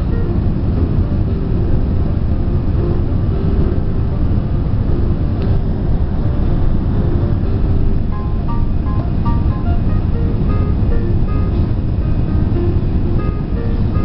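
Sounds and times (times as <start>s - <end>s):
airliner landing rumble: 0.0s - 14.0s
faint music: 0.0s - 14.0s.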